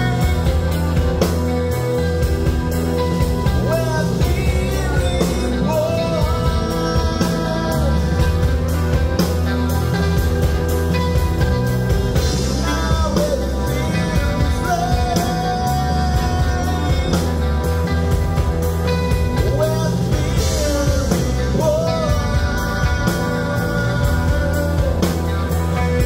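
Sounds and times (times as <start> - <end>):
man singing: 0.0 - 9.7, 12.1 - 26.0
live rock band: 0.0 - 26.0.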